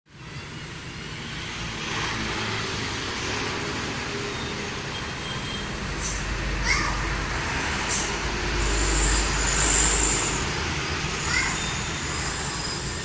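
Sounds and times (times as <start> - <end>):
road traffic passing: 0.1 - 13.0.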